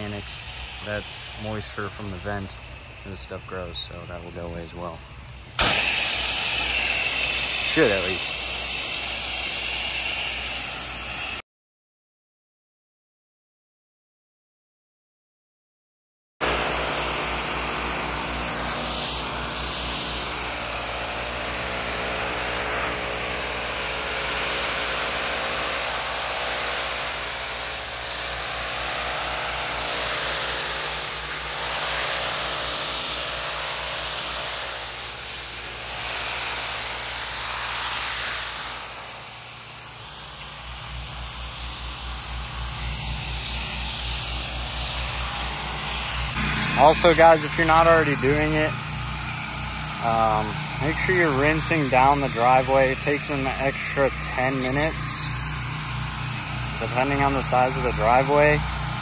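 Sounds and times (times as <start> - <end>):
water hissing onto concrete: 0.0 - 5.0, 5.6 - 11.4, 16.4 - 59.0
pressure washer running: 0.0 - 11.4, 16.4 - 59.0.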